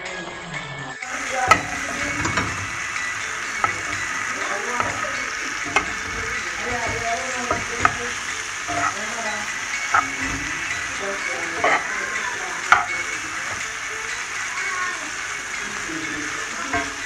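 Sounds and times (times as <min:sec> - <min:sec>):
food sizzling in a frying pan: 0:01.0 - 0:17.0
metal spoon clinking on pan: 0:01.2 - 0:17.0.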